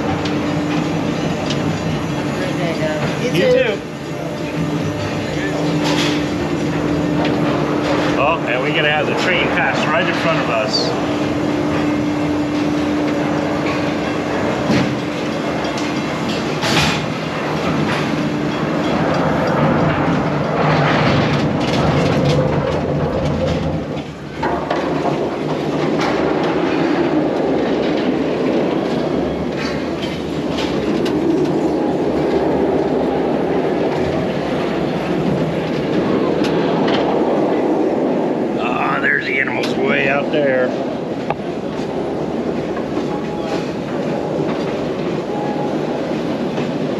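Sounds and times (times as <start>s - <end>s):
train cars rumbling: 0.0s - 46.9s
wheels clattering over rails: 0.0s - 46.9s.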